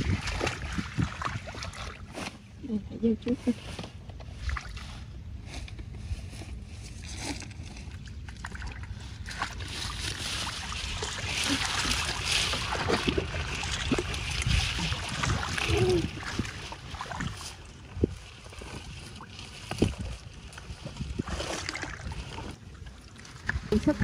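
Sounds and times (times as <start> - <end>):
splashing in shallow water: 0.0 - 2.5, 7.0 - 24.0.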